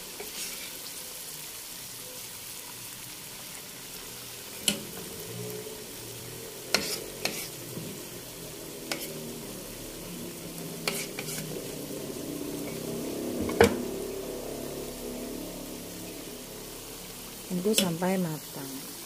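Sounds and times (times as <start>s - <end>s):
fritters sizzling in hot oil: 0.0s - 19.0s.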